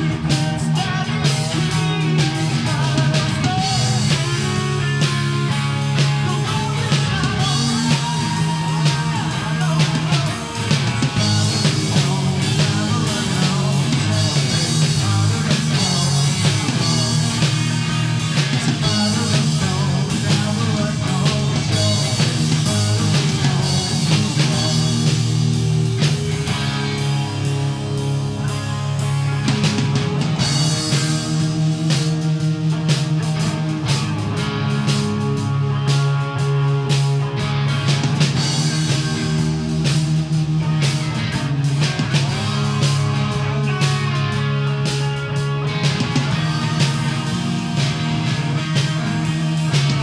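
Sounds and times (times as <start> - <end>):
rock band playing: 0.0 - 50.0.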